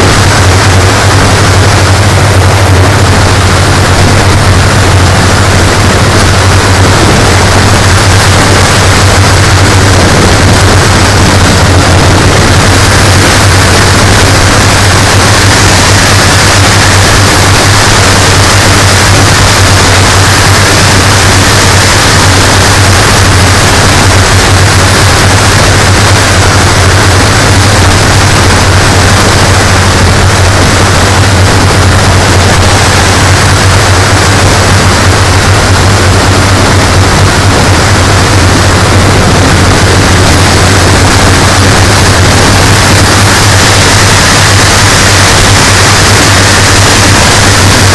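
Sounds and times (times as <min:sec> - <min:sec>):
heavy rushing noise: 0:00.0 - 0:47.9
model plane engines droning: 0:00.0 - 0:47.9.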